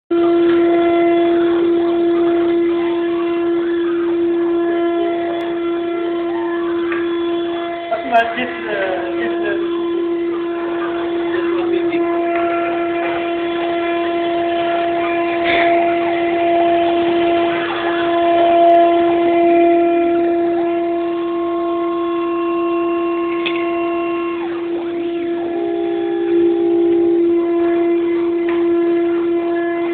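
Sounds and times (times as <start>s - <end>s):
router spindle whine: 0.1s - 29.9s.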